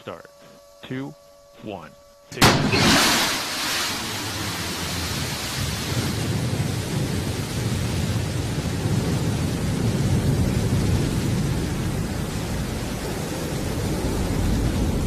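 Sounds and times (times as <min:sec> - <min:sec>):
rocket engine rumbling: 0:02.4 - 0:15.0.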